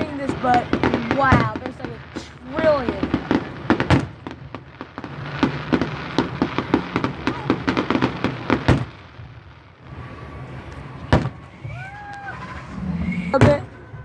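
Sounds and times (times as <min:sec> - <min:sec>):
firework booms: 0:00.0 - 0:14.0
fireworks popping and crackling: 0:00.0 - 0:14.0.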